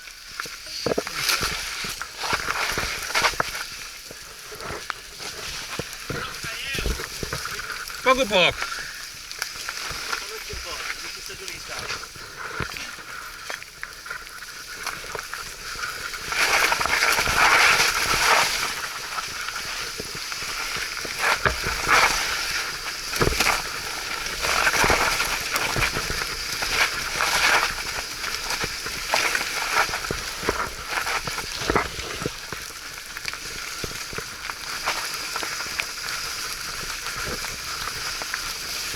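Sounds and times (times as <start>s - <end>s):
bike tyres splashing through mud: 0.0s - 38.9s
bike knocking over rough ground: 0.4s - 38.9s.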